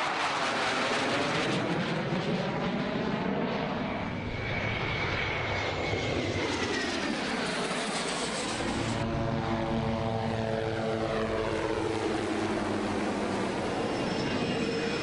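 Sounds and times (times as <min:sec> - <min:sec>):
plane flying past: 0:00.0 - 0:15.0
small helicopters droning: 0:00.0 - 0:15.0.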